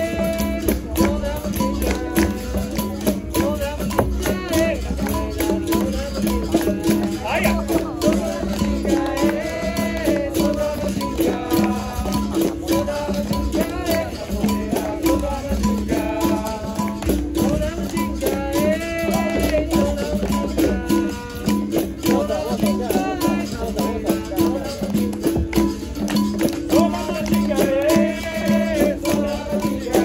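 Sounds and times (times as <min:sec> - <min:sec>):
berimbau rhythm: 0:00.0 - 0:30.0
hand percussion: 0:00.0 - 0:30.0
shaker: 0:00.0 - 0:30.0
voices singing: 0:00.0 - 0:30.0.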